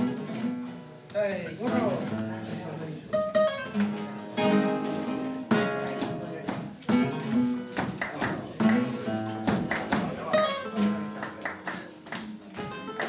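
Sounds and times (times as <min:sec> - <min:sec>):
flamenco guitar playing: 0:00.0 - 0:13.0.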